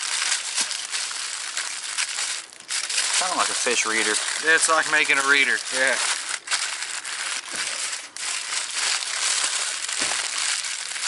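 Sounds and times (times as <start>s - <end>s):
aluminum foil crinkling: 0.0s - 11.0s.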